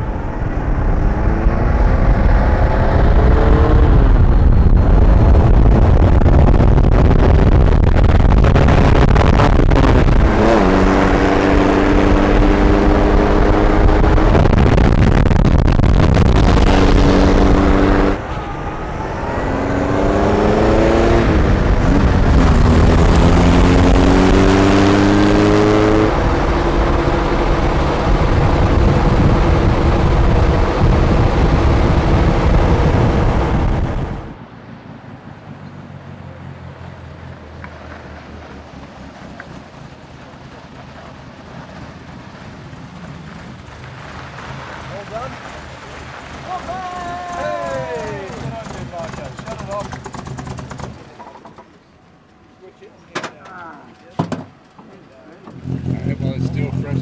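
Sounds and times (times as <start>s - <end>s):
low wind rumble: 0.0s - 51.0s
car engine accelerating: 0.0s - 51.9s, 54.5s - 57.0s.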